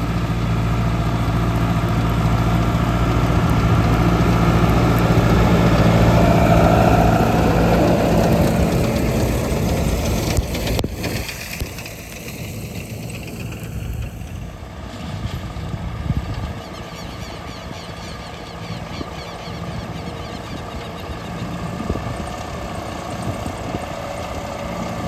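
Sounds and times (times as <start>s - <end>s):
machinery engine running: 0.0s - 25.0s.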